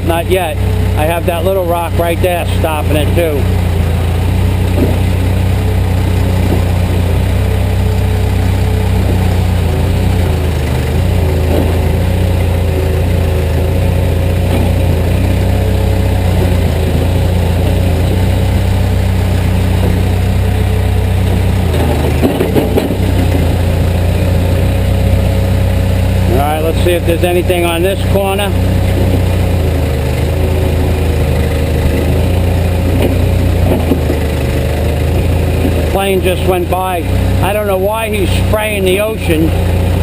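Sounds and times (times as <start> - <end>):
backhoe diesel engine running: 0.0 - 40.0.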